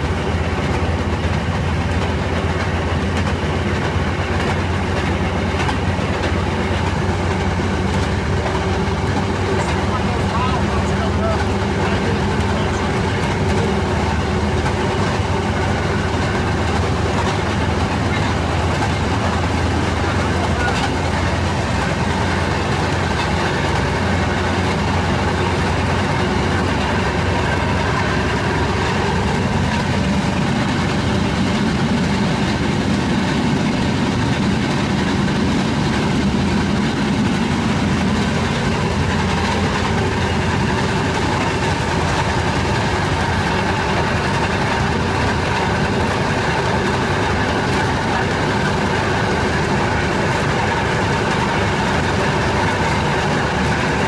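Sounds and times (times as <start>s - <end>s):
two-stroke engine running: 0.0s - 54.0s
wheels rolling on rails: 0.0s - 54.0s.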